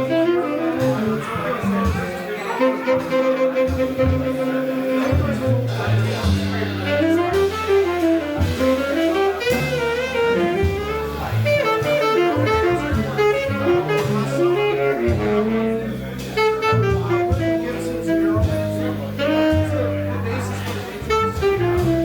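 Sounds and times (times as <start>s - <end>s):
jazz band playing: 0.0s - 22.0s.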